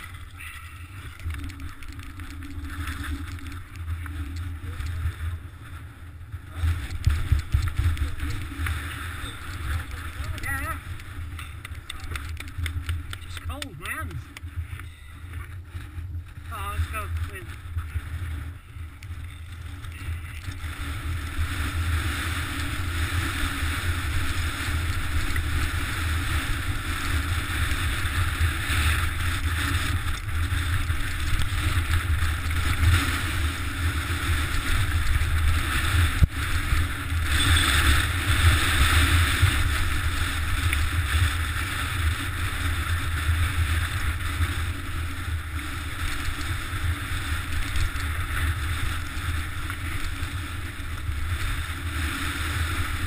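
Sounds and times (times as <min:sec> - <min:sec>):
bike rattling over stones: 0:00.0 - 0:53.0
wind rumbling on microphone: 0:00.0 - 0:53.0.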